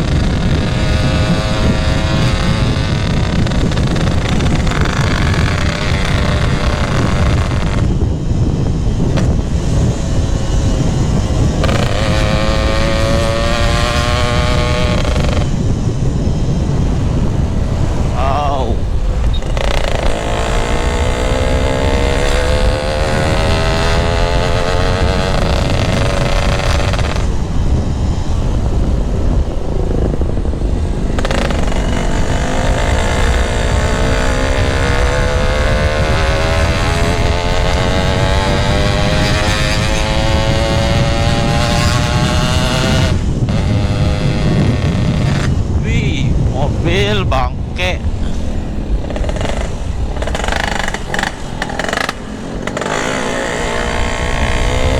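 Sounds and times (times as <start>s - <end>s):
two-stroke motorcycle engine: 0.0s - 54.9s
wind on microphone: 0.0s - 54.9s.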